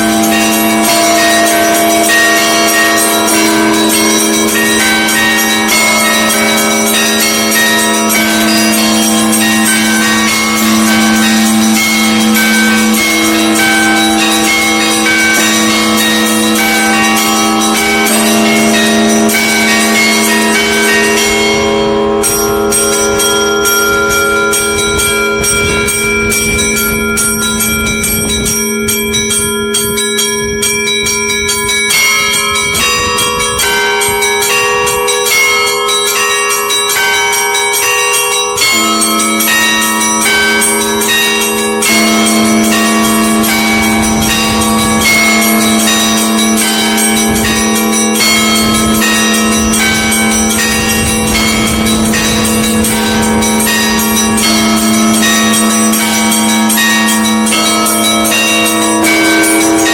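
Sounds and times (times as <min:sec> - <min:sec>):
deep church bell tolling: 0:00.0 - 0:59.9
small bells striking rapidly: 0:00.0 - 0:59.9.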